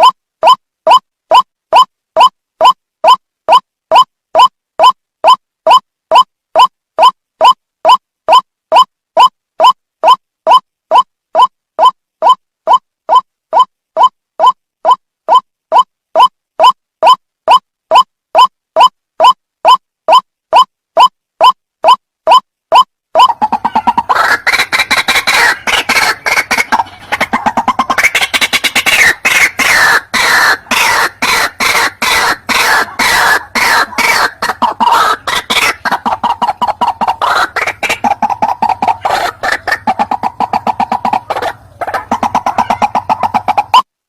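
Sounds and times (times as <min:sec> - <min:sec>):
bird call harsh repeated notes: 0:00.0 - 0:43.9.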